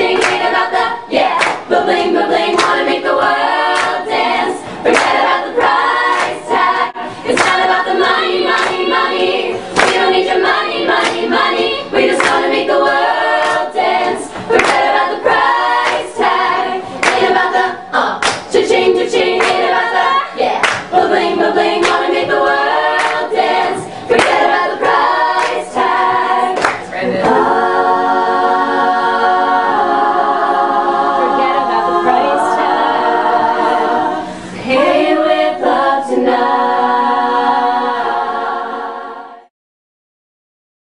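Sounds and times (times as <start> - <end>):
a cappella group singing: 0.0 - 39.5.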